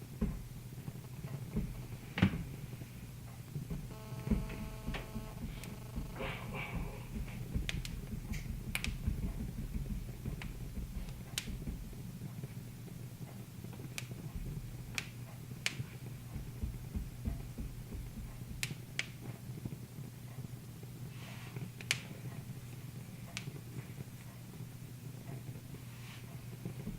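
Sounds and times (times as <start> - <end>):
low steady hum: 0.0 - 26.9
wood fire crackling: 0.0 - 26.9.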